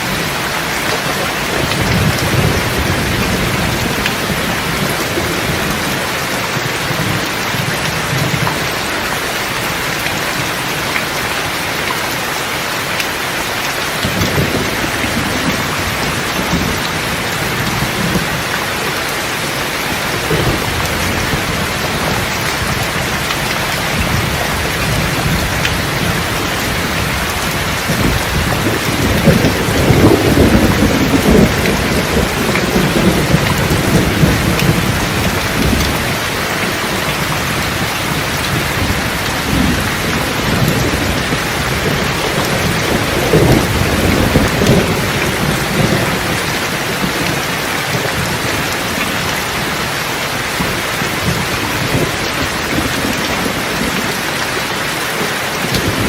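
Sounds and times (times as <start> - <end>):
rolling thunder: 0.0 - 8.8, 14.0 - 18.8, 19.6 - 54.3
heavy rain: 0.0 - 56.0.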